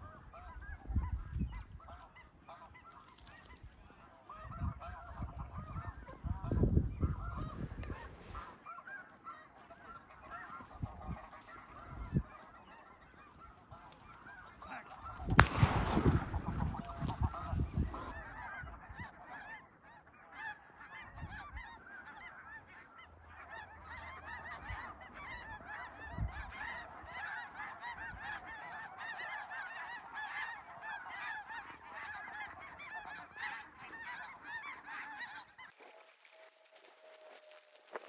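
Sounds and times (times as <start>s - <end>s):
geese honking: 0.1s - 38.0s.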